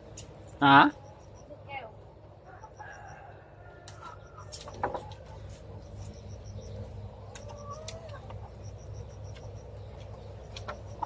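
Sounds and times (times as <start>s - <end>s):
low hum: 0.0s - 11.0s
rapid insect chirping: 0.6s - 11.0s
hens calling softly: 0.9s - 11.0s.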